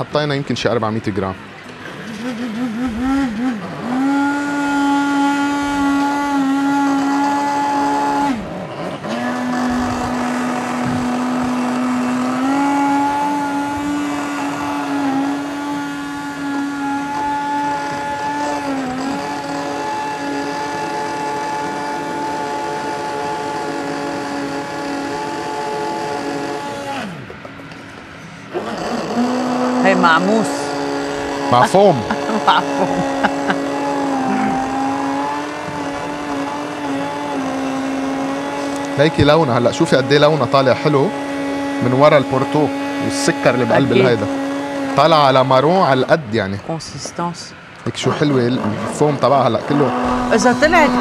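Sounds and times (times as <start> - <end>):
stick blender motor hum: 1.7 - 27.6, 28.4 - 45.7, 48.1 - 51.0.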